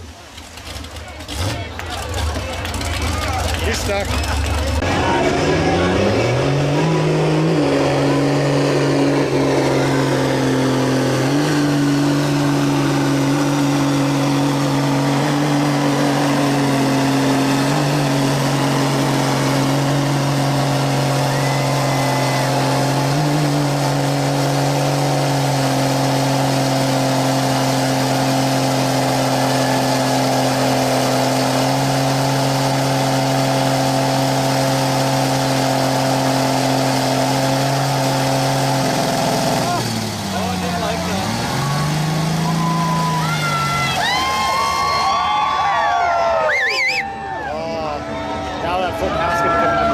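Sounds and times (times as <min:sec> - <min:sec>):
vehicle engine revving high: 0:00.0 - 0:49.9.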